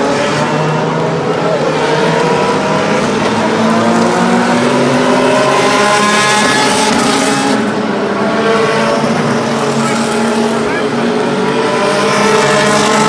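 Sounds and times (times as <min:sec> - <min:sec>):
race car engines at low speed: 0:00.0 - 0:13.0.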